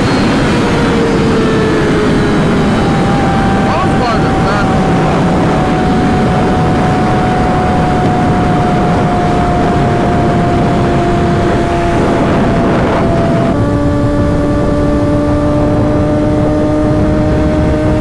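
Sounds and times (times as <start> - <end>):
motorcycle engine: 0.0 - 18.0
wind noise on microphone: 0.0 - 18.0.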